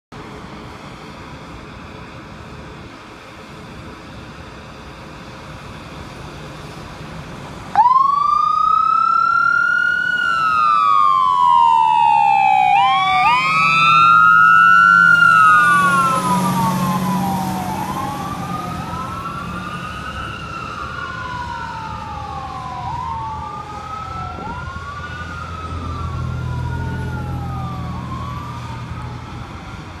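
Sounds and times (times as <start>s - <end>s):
truck engine: 0.2s - 30.0s
fire engine siren wailing: 4.7s - 30.0s.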